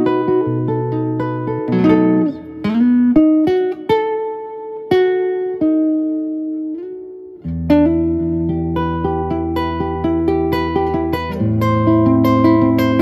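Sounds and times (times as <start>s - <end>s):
fingerstyle acoustic guitar: 0.0s - 13.0s.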